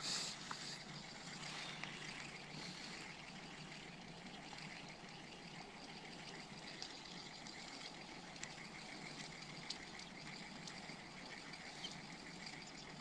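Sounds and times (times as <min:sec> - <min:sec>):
faint ticks: 0:00.3 - 0:13.0.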